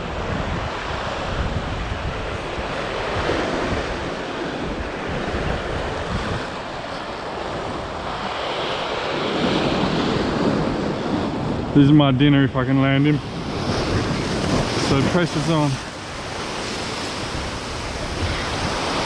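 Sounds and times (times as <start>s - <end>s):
ocean swell washing over rocks: 0.0s - 19.0s
wind on microphone: 0.0s - 19.0s.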